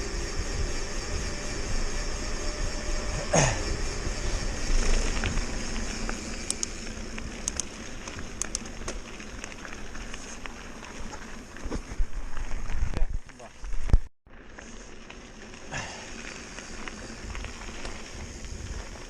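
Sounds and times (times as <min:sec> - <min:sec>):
bike clicks and rattles: 0:00.0 - 0:19.0
bike tyres and wind rush: 0:00.0 - 0:19.0.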